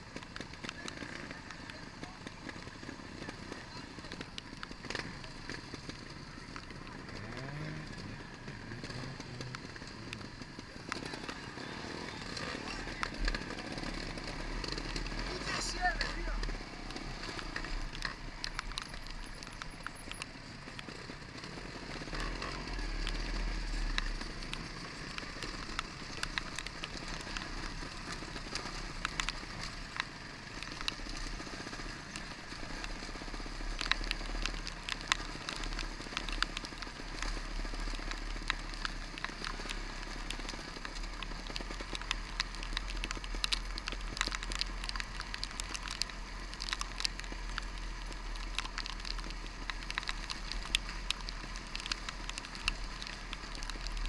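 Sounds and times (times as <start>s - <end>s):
motorcycle engine running: 0.0s - 54.0s
rain and stones hitting bike: 0.0s - 54.0s.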